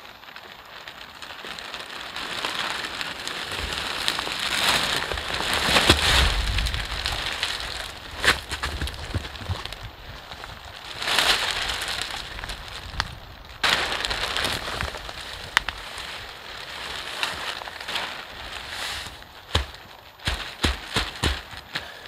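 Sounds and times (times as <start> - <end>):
plastic tarp crinkling: 0.0 - 22.0.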